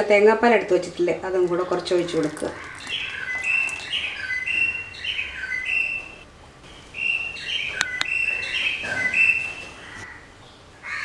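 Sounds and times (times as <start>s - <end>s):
songbird singing: 1.6s - 11.0s.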